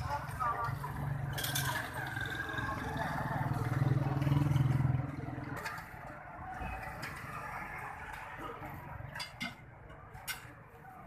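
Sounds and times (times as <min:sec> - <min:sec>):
background noise: 0:00.0 - 0:11.0.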